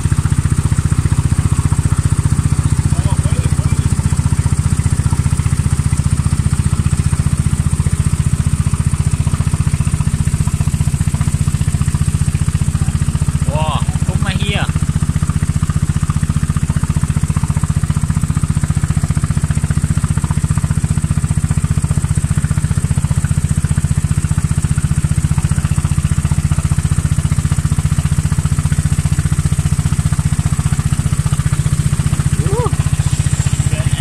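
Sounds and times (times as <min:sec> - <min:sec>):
boat engine throbbing: 0:00.0 - 0:34.0.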